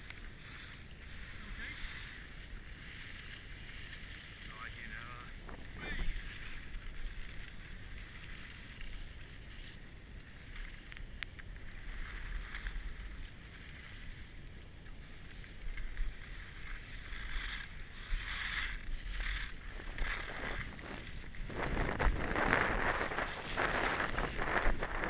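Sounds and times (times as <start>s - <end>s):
skis scraping over snow: 0.0s - 25.0s
wind rumbling on microphone: 0.0s - 25.0s.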